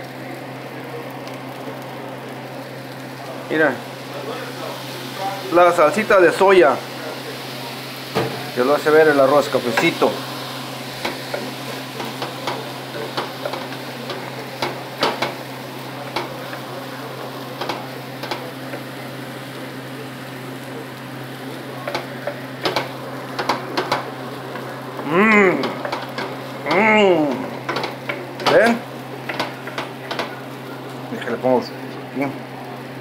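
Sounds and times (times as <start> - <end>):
rice sizzling in pan: 0.0 - 33.0.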